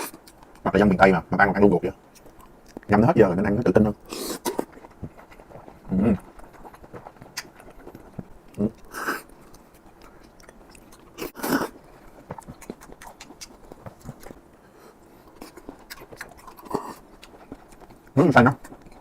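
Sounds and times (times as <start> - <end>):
chewing and biting: 2.1 - 2.9, 4.0 - 19.0.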